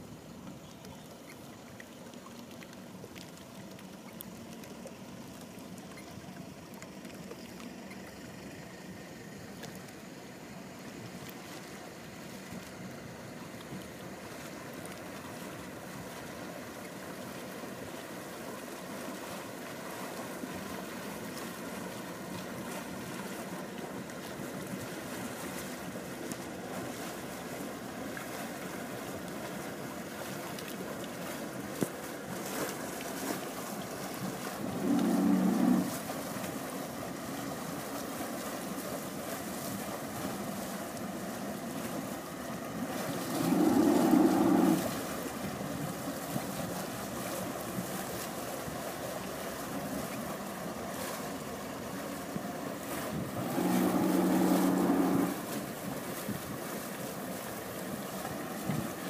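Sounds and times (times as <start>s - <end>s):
boat engines humming: 0.0s - 59.0s.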